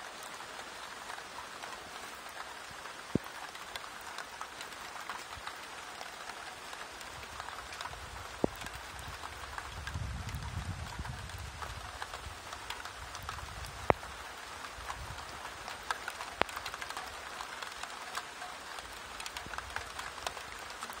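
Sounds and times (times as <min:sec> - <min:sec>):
rain patter: 0:00.0 - 0:21.0.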